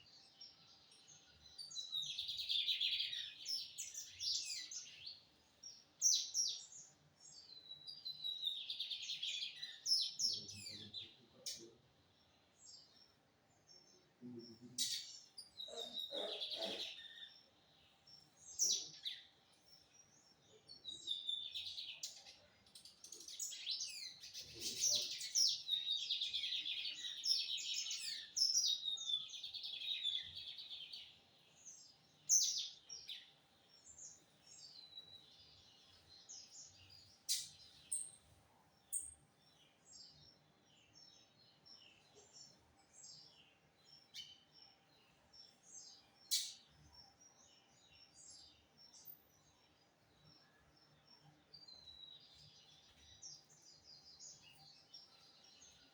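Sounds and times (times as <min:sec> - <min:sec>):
bird twittering song: 0:00.0 - 0:55.9.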